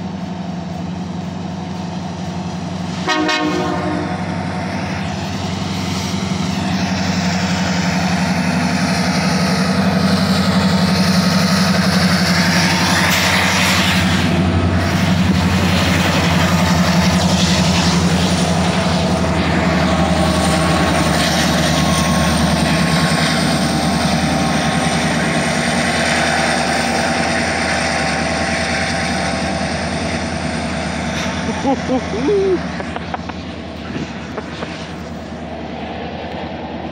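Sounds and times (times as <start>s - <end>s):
diesel locomotive engines droning: 0.0s - 36.9s.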